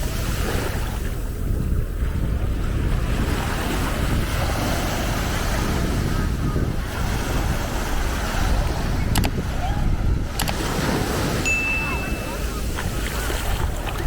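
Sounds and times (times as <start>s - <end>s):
surf washing onto beach: 0.0s - 14.0s
wind buffeting microphone: 0.0s - 14.0s.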